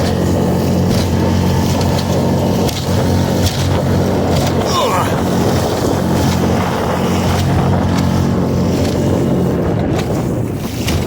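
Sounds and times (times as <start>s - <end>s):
outboard motor running: 0.0s - 11.0s
wind noise on microphone: 0.0s - 11.0s.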